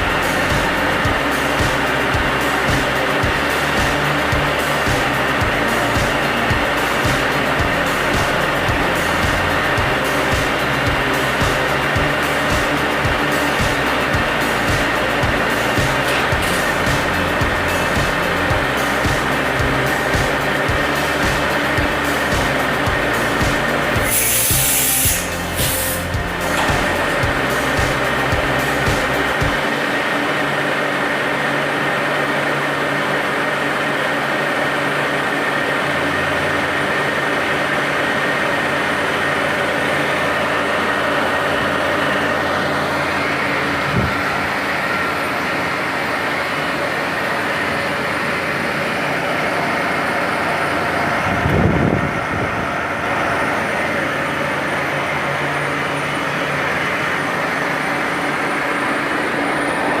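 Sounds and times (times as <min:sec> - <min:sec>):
milling machine humming: 0:00.0 - 1:00.0.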